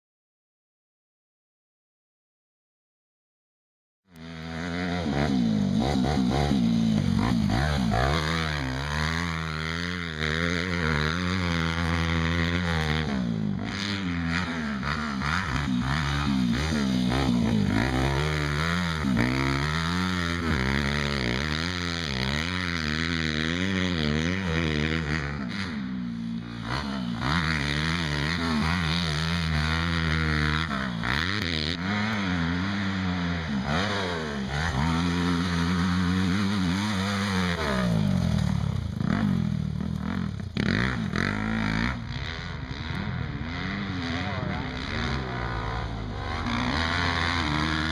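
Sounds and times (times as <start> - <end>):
motocross bike engine revving: 4.2 - 47.9.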